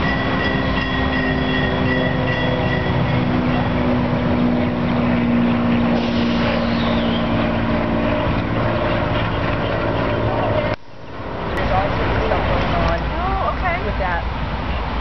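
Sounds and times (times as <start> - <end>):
diesel locomotive engine drone: 0.0 - 15.0
rail and wheel noise: 0.0 - 15.0.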